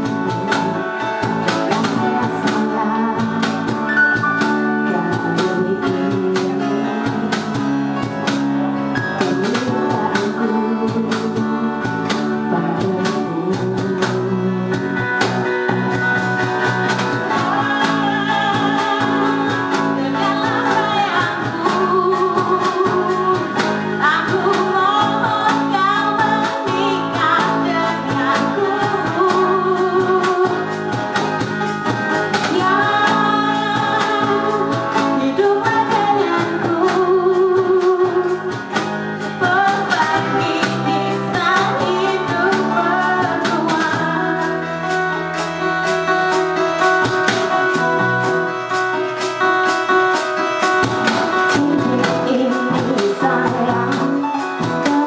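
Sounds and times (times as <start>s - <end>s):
person singing: 0.0s - 31.5s, 32.1s - 55.0s
acoustic guitar: 0.0s - 55.0s
electric bass: 0.0s - 55.0s.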